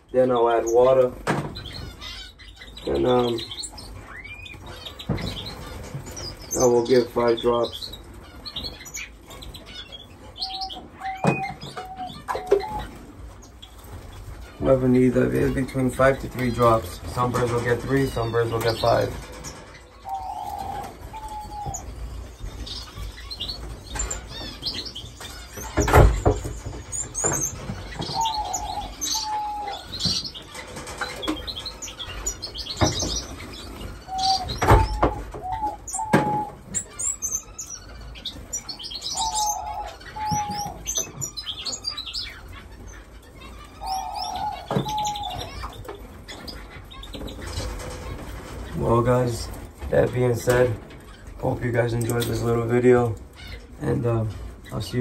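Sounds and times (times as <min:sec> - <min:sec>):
finches chirping and twittering: 0:00.0 - 0:55.0.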